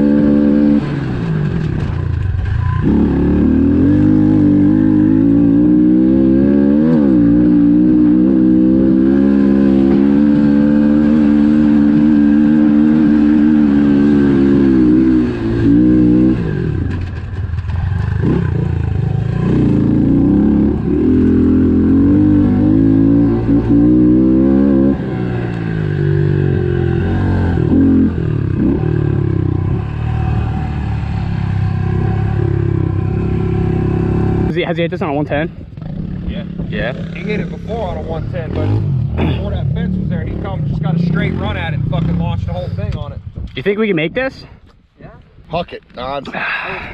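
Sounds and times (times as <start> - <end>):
motorbike engine revving: 0.0 - 43.4.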